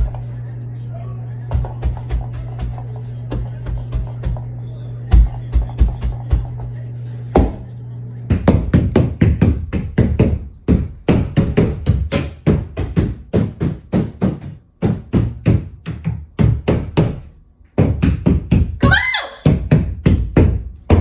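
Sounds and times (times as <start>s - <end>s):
heavy knocking thuds: 1.5s - 6.8s, 8.3s - 18.8s, 19.4s - 21.0s.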